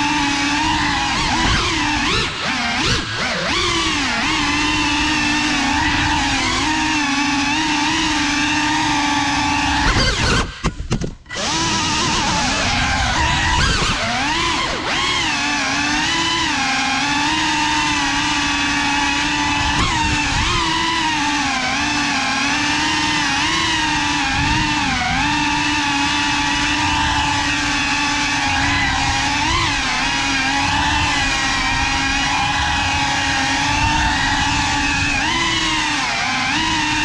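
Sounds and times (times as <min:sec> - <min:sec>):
drone motors whining: 0:00.0 - 0:37.0.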